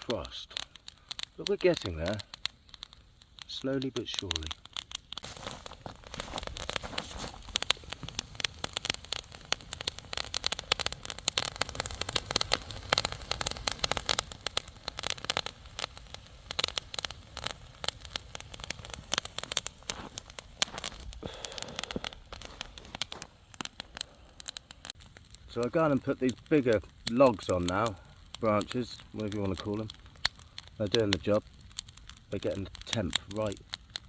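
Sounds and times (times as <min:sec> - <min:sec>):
bonfire crackling and popping: 0:00.0 - 0:34.0.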